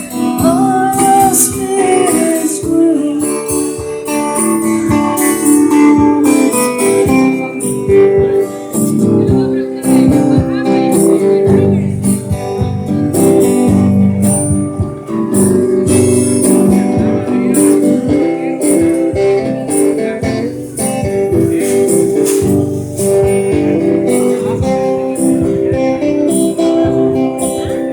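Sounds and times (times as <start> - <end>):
guitar music: 0.0 - 27.9.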